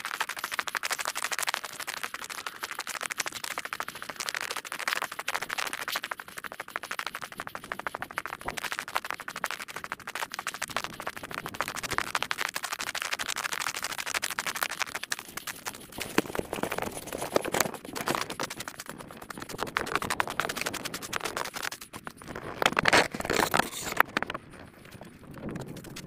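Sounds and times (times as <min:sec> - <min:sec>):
rapid crackling and scratching: 0:00.0 - 0:26.0.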